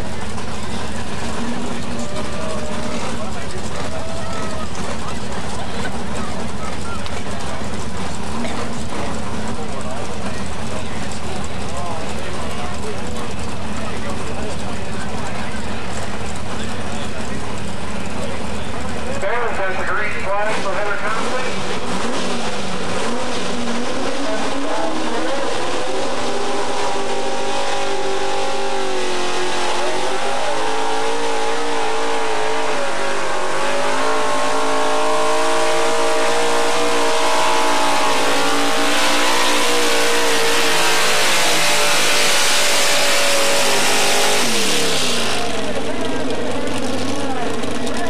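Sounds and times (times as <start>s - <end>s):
truck engine at high revs: 0.0s - 48.0s.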